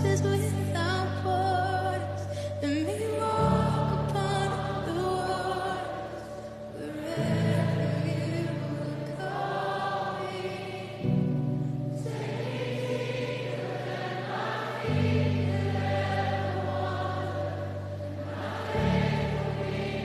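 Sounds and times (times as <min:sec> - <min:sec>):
choir singing slow chords: 0:00.0 - 0:20.0
low sustained notes: 0:00.0 - 0:20.0.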